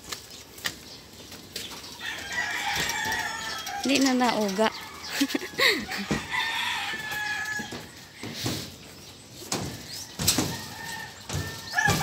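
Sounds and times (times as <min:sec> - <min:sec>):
footsteps on footbridge deck: 0:00.0 - 0:12.0.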